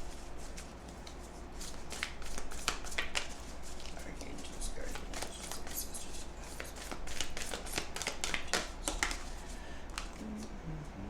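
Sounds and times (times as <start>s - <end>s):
cards shuffling: 0.5s - 10.5s.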